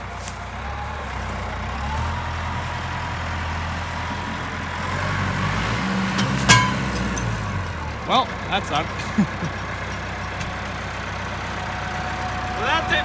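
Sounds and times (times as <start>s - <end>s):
tractor diesel engine straining: 0.0s - 13.0s.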